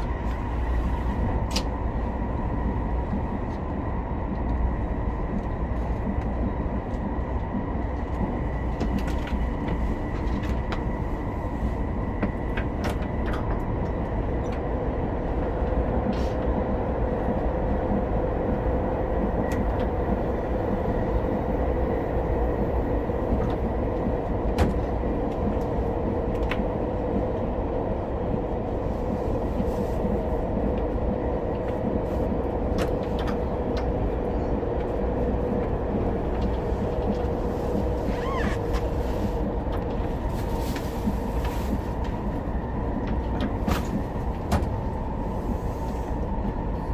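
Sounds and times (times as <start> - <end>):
train running noise with whine: 0.0 - 46.9.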